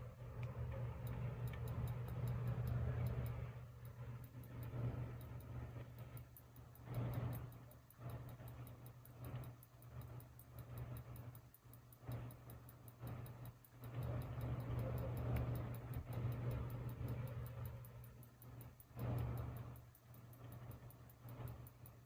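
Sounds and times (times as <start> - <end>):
ceiling fan humming and ticking: 0.0 - 22.0.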